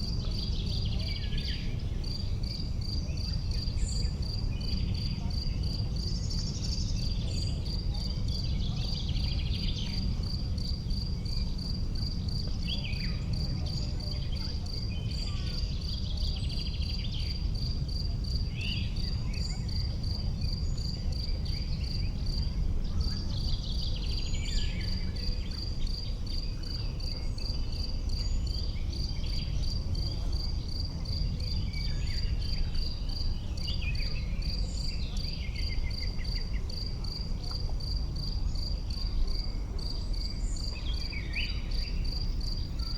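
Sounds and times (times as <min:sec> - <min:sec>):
cricket chirping: 0:00.0 - 0:42.9.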